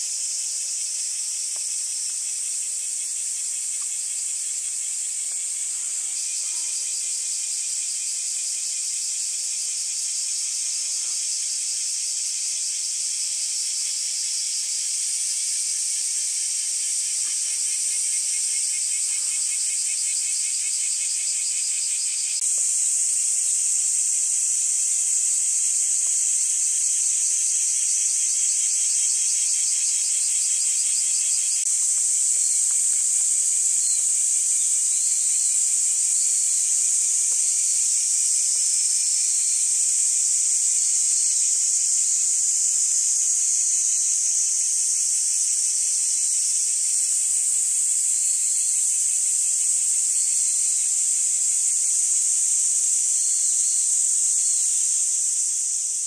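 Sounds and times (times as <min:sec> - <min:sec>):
insects chorus high shrill hiss: 0:00.0 - 0:56.0
fast pulsing insect trill: 0:00.1 - 0:56.0.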